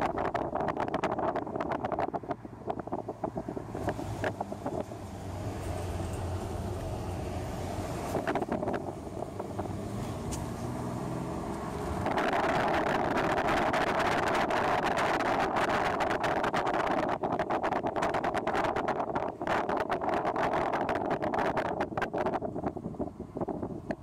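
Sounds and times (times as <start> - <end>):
car engine hum: 0.0 - 24.0
tyres crackling on rough road: 0.0 - 24.0.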